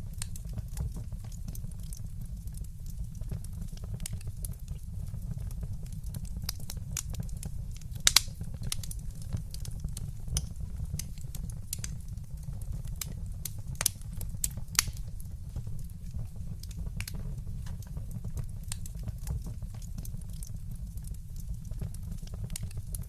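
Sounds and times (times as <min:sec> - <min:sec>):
fire low rumble: 0:00.0 - 0:23.0
wood fire crackling and popping: 0:00.0 - 0:23.0.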